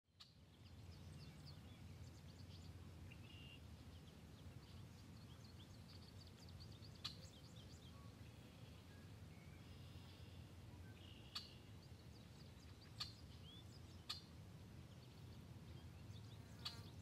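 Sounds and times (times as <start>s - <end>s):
small birds chirping: 0.1s - 17.0s
low steady rumble: 0.2s - 16.7s.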